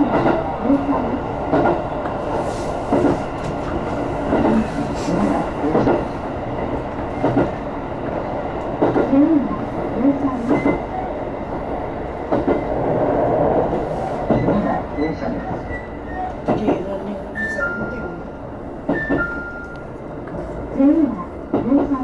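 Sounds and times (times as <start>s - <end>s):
train rolling rumble: 0.0s - 22.0s.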